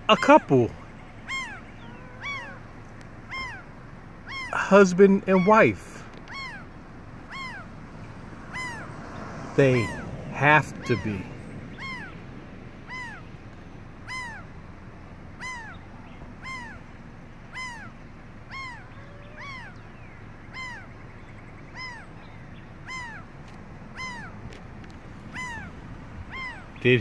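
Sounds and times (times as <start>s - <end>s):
gull calls: 0.0s - 13.4s, 14.0s - 14.6s, 15.3s - 24.6s, 25.2s - 27.0s.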